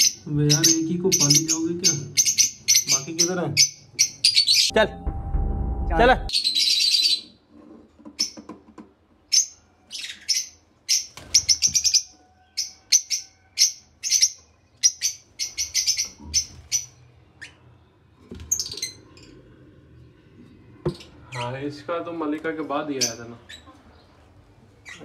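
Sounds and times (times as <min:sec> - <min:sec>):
lovebirds chirping: 0:00.0 - 0:05.0, 0:09.3 - 0:21.9, 0:22.6 - 0:25.0.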